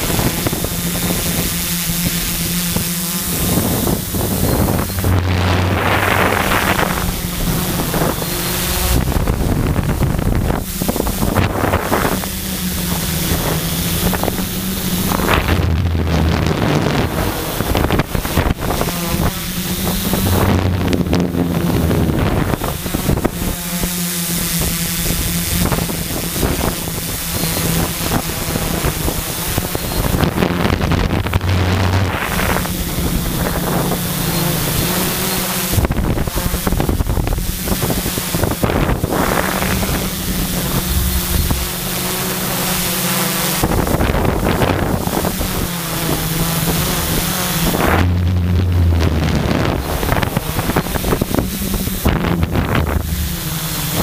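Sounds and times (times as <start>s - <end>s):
drone motors and propellers buzzing: 0.0s - 54.0s
wind noise on microphone: 0.0s - 54.0s.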